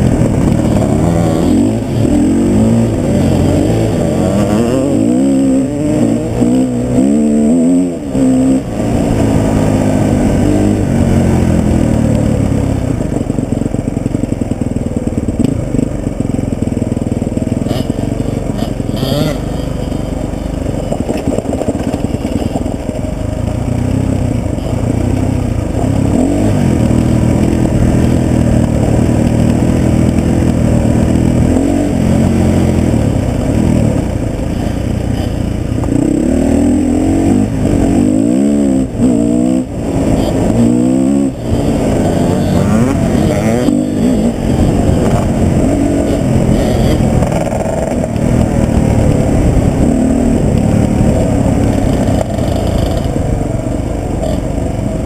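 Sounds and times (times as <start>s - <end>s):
motorcycle engine revving under load: 0.0s - 55.0s.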